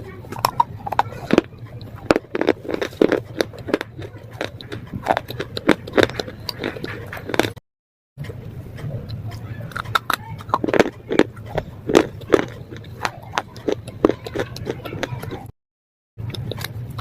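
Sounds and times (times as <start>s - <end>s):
crunching and chewing: 0.0s - 7.6s, 8.2s - 15.6s, 16.2s - 17.0s.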